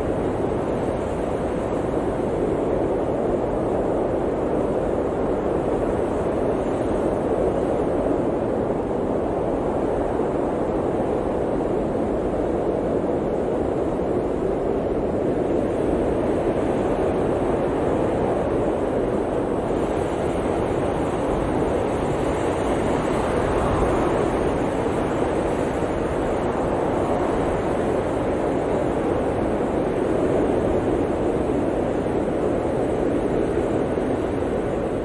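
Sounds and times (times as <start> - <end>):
blizzard wind blowing: 0.0 - 35.0.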